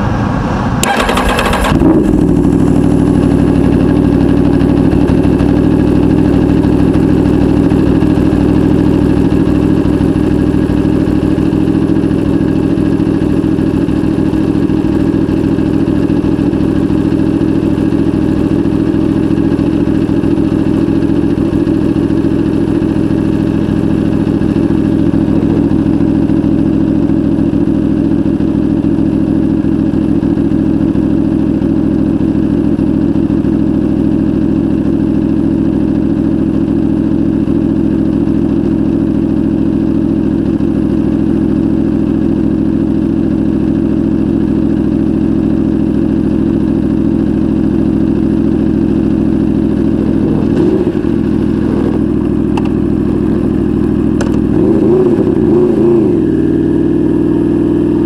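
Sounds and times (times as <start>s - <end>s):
motorcycle engine idling: 0.8s - 58.0s.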